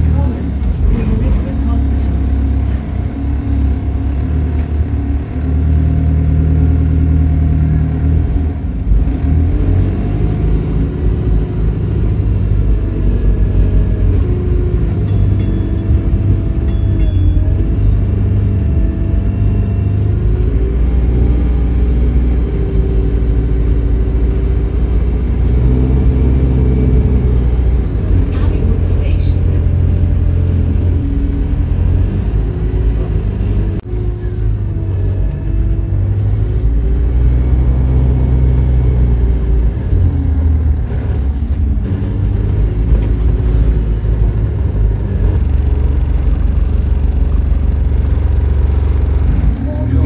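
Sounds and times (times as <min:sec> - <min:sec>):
bus diesel engine rumble: 0:00.0 - 0:50.0.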